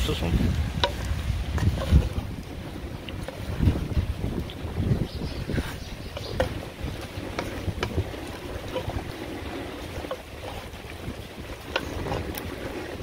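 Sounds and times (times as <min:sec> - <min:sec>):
wooden spoon stirring in sauce: 0:00.7 - 0:04.7, 0:05.4 - 0:13.0.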